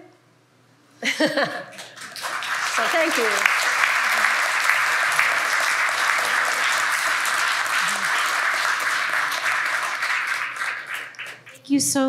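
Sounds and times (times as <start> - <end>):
audience applause: 1.2 - 11.6.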